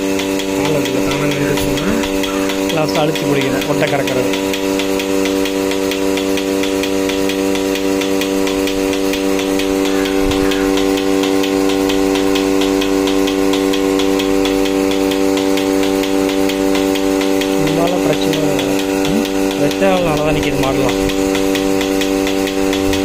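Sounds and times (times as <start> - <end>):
pulsator ticking: 0.0 - 23.0
vacuum pump hum: 0.0 - 23.0.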